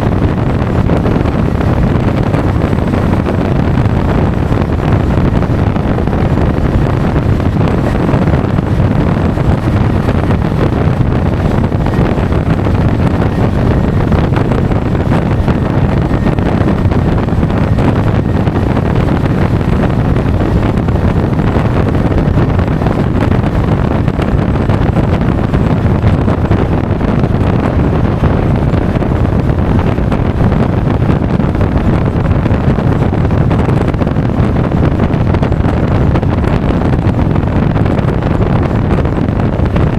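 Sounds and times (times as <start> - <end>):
scooter engine and road noise: 0.0 - 39.9
wind buffeting microphone: 0.0 - 39.9.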